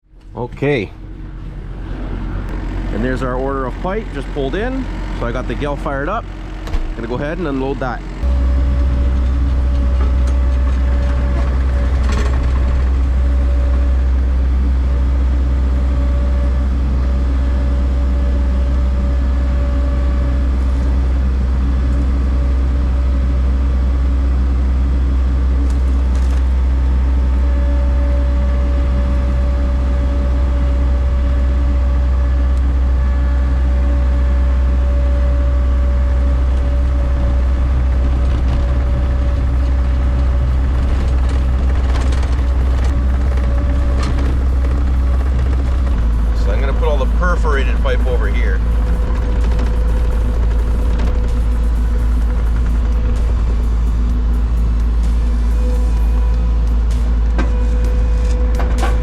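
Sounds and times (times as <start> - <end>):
loader engine rumbling: 0.0 - 59.0
faint steady whine: 0.1 - 59.0.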